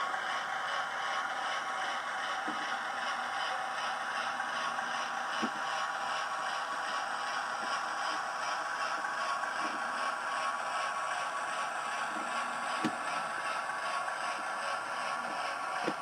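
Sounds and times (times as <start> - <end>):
model train diesel engine sound: 0.0 - 16.0.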